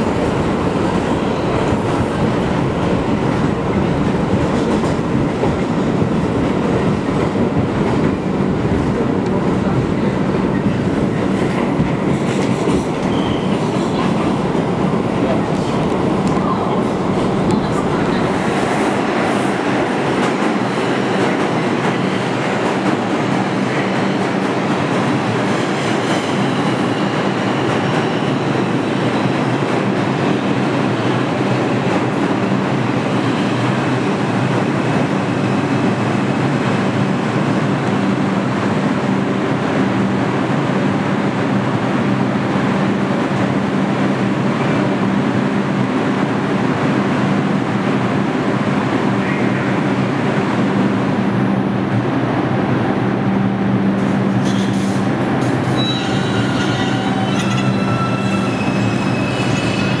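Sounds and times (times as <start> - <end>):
subway train wheels rumbling: 0.0 - 60.0.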